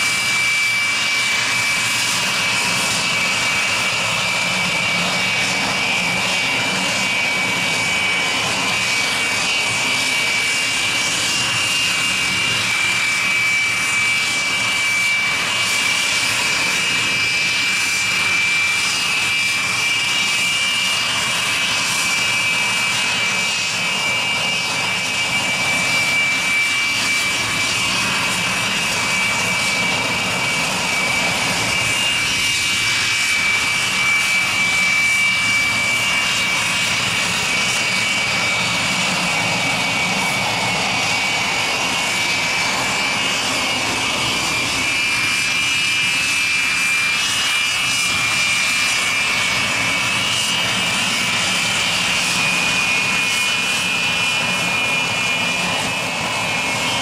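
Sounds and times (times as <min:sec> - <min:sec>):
jet aircraft taxiing whine: 0:00.0 - 0:57.0.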